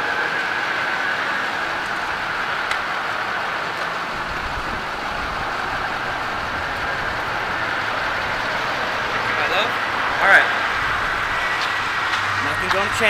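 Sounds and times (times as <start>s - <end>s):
mid-pitched whine: 0.0s - 13.0s
outdoor hum and hiss: 0.0s - 13.0s.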